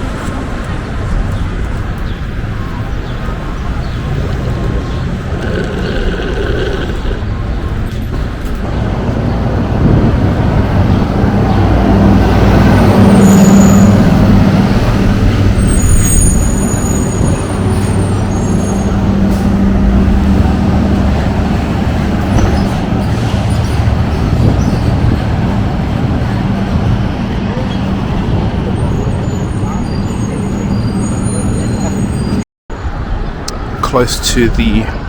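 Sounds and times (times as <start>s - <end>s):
heavy vehicle engine running: 0.0s - 32.4s
city street traffic: 0.0s - 35.0s.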